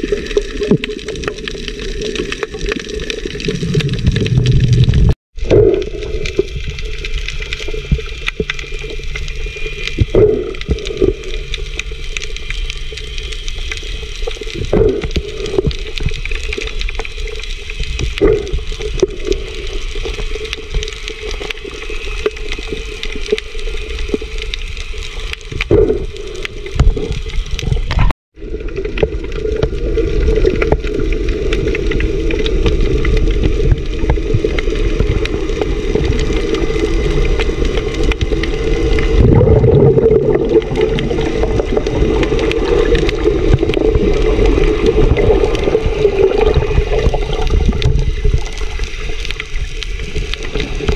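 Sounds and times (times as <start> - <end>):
underwater sloshing and bubbling: 0.0 - 50.9.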